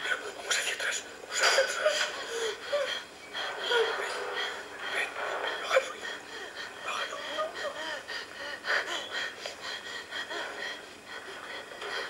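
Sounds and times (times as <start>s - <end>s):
shaky frightened breathing: 1.3s - 12.0s.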